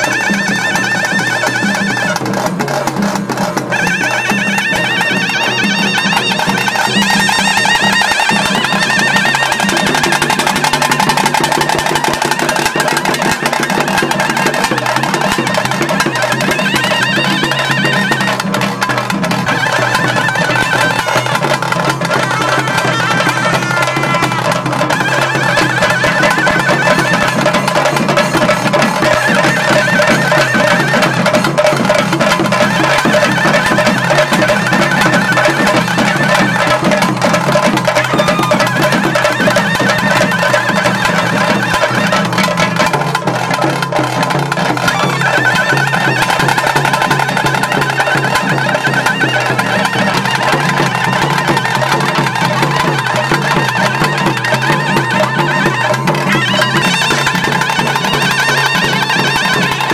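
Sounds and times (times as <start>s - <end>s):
barrel drums beaten: 0.0s - 59.9s
shrill reed pipe melody: 0.0s - 59.9s.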